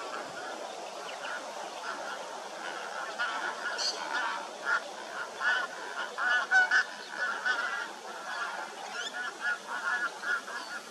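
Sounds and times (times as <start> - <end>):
waterfowl honking: 0.0 - 10.9.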